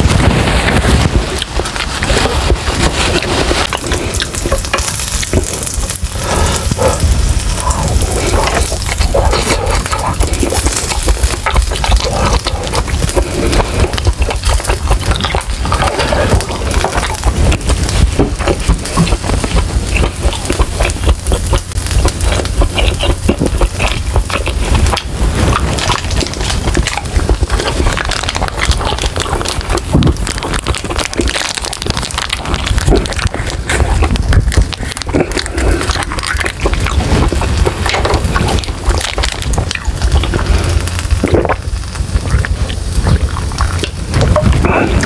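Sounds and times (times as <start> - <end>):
chewing with lip-smacking: 0.0 - 45.0.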